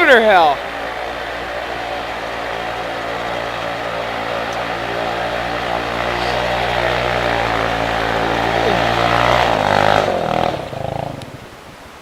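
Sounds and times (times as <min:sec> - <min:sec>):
atv engine at high revs: 0:00.0 - 0:11.7.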